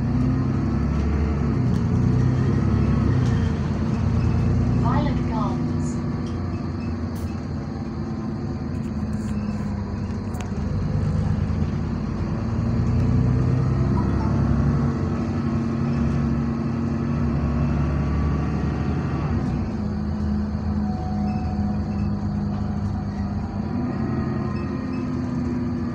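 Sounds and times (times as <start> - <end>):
bus engine droning moan: 0.0 - 25.9.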